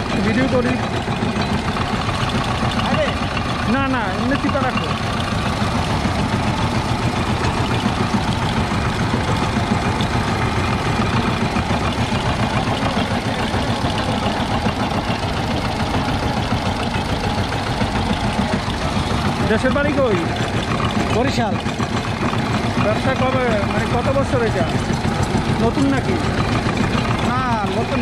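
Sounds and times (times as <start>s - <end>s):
small diesel engine running: 0.0s - 28.0s.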